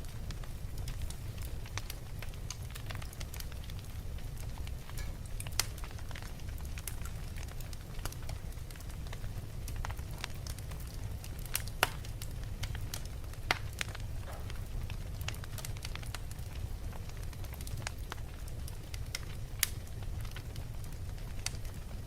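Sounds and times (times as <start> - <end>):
fire crackling and popping: 0.0 - 22.0
fire low rumble: 0.0 - 22.0.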